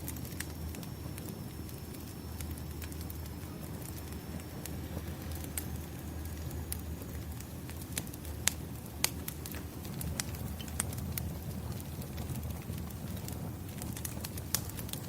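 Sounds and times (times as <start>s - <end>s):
fire crackles and pops: 0.0s - 15.0s
wood fire rumbling: 0.0s - 15.0s.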